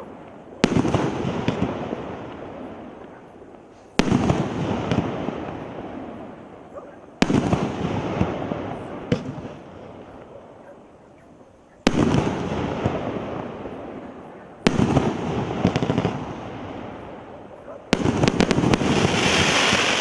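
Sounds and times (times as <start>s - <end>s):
fireworks crackle: 0.0s - 10.3s, 11.8s - 20.0s
fireworks bangs: 0.0s - 10.6s, 11.8s - 20.0s.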